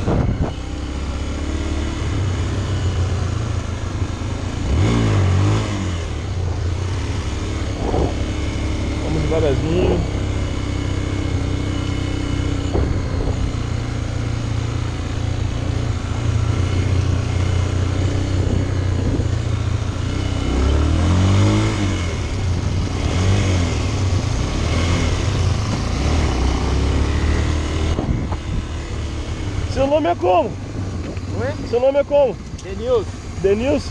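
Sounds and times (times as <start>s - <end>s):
motorcycle engines running: 0.0s - 33.9s.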